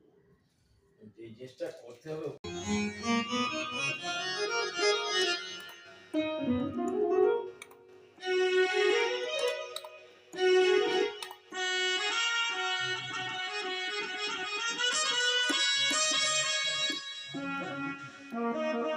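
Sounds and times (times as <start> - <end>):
synthesizer keyboard chords: 2.4 - 18.9.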